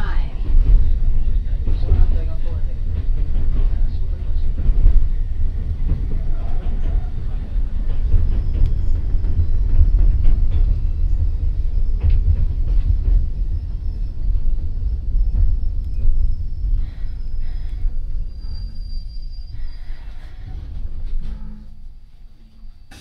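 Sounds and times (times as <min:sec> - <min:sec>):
train rumbling from inside: 0:00.0 - 0:23.0.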